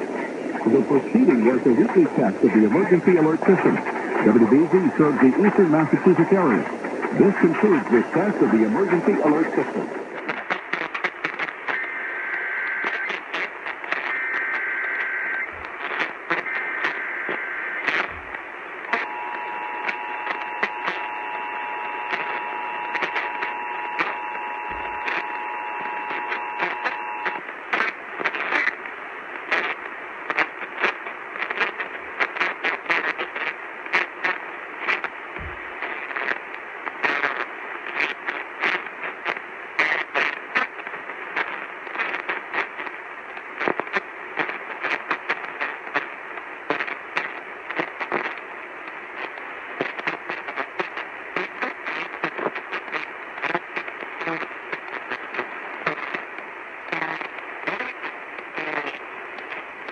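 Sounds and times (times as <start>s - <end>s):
radio static crackling: 0.0s - 59.9s.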